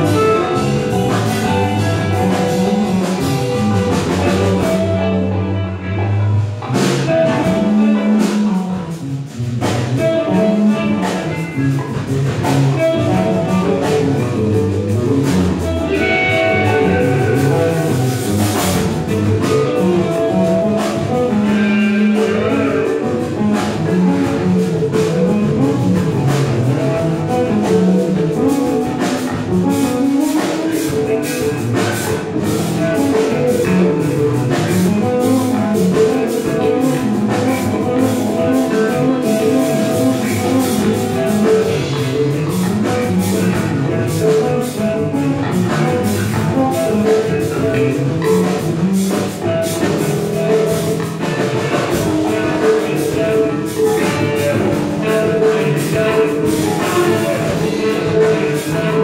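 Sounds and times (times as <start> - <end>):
drum kit: 0.0 - 59.0
electric guitar: 0.0 - 59.0
saxophone: 0.0 - 59.0.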